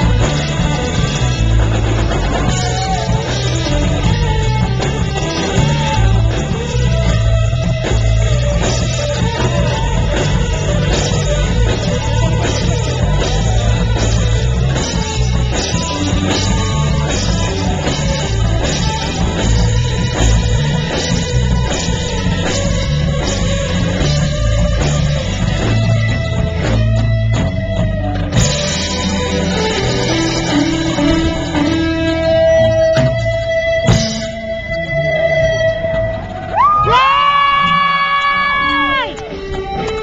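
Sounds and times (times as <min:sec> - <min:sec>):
drum kit: 0:00.0 - 0:40.0
electric guitar: 0:00.0 - 0:40.0.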